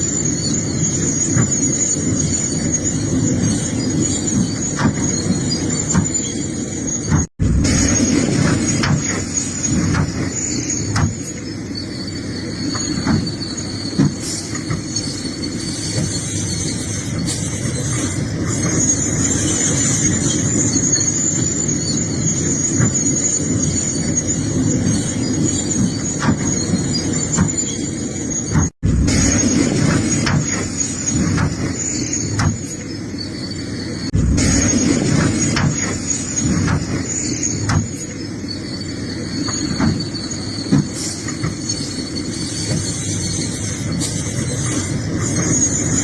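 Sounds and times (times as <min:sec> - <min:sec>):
excavator rumbling: 0:00.0 - 0:46.0
high metallic squeal: 0:00.0 - 0:46.0.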